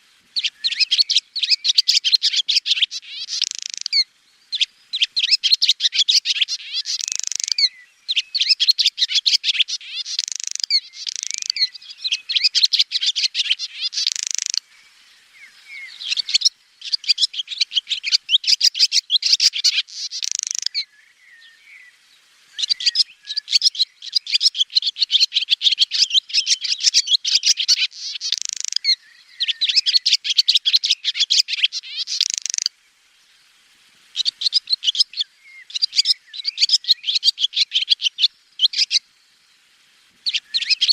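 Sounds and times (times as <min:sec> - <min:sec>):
swallow twittering: 0:00.0 - 0:14.6, 0:15.3 - 0:21.9, 0:22.6 - 0:32.7, 0:34.1 - 0:39.0, 0:40.2 - 0:40.9.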